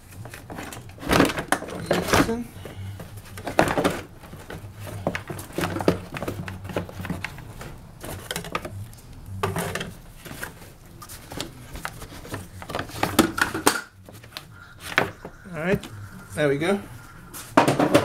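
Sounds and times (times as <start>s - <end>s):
hard plastic knocks and scraping: 0.0s - 18.0s
steady low hum: 0.0s - 18.0s.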